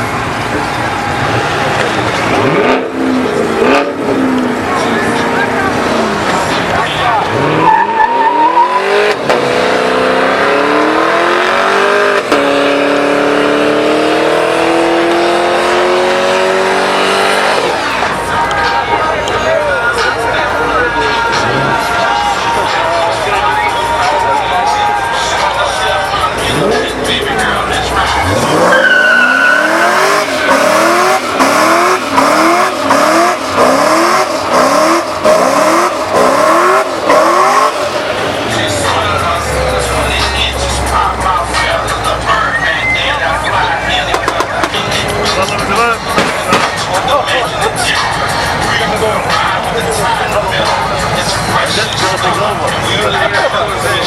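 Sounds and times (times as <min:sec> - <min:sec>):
car engine revving high: 0:00.0 - 0:18.8, 0:21.0 - 0:22.5, 0:24.3 - 0:53.6
tires squealing: 0:00.0 - 0:54.0.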